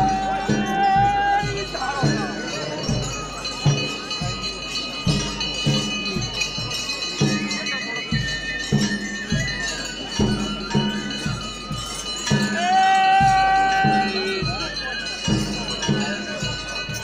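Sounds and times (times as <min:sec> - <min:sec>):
bells ringing and jingling: 0:00.0 - 0:17.0.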